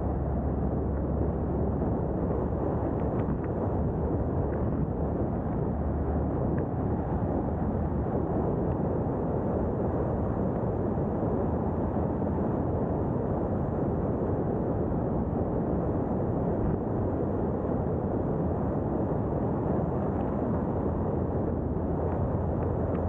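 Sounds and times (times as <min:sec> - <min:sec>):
wind and road noise: 0:00.0 - 0:23.0
wind buffeting microphone: 0:00.0 - 0:23.0.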